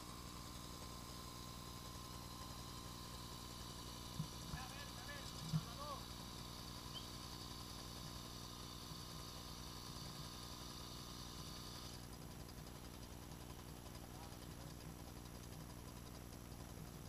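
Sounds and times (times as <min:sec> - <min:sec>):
muffled quad engine idling: 0:00.0 - 0:17.0.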